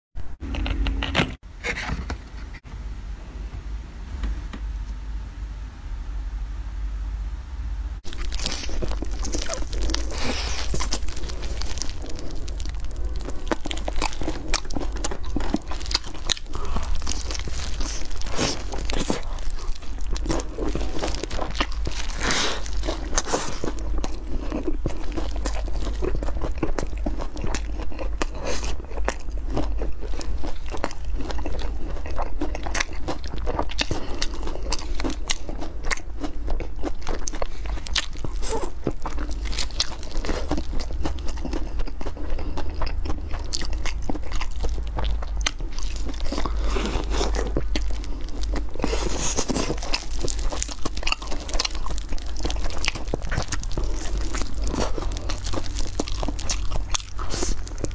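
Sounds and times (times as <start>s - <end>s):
crunching and chewing fried food: 8.0s - 57.9s.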